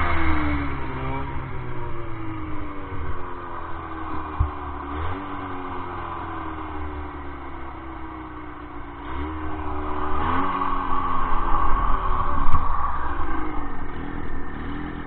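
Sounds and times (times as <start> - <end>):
snowmobile engine labouring: 0.0 - 15.0.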